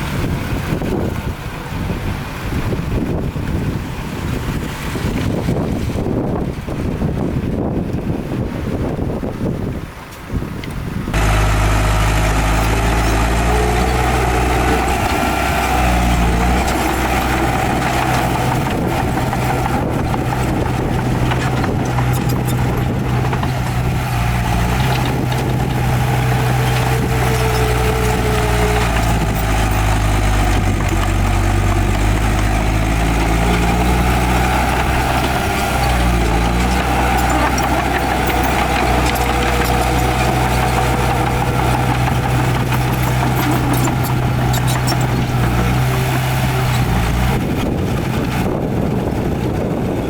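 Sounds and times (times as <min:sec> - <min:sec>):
heavy diesel engine running: 0:00.0 - 0:09.0, 0:11.0 - 0:50.0
wind on microphone: 0:00.0 - 0:11.2, 0:12.3 - 0:50.0.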